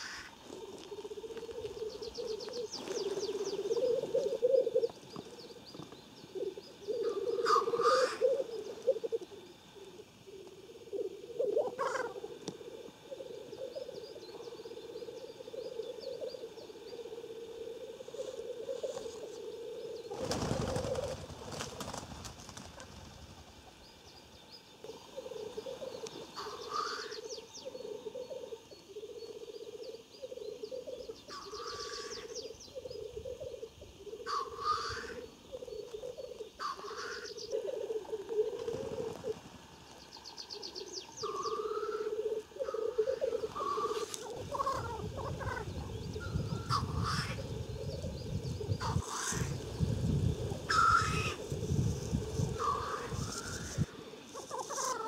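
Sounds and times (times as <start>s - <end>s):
black grouse bubbling coo: 0.0s - 21.8s, 24.8s - 55.0s.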